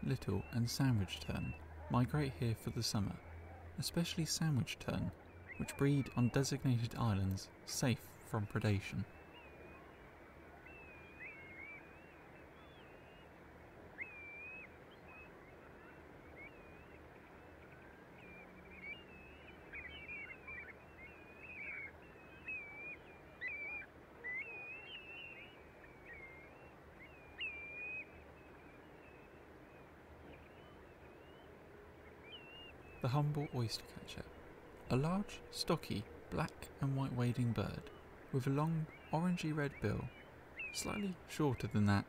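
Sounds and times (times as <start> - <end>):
birds whistling calls: 0.0 - 7.3, 8.4 - 42.0.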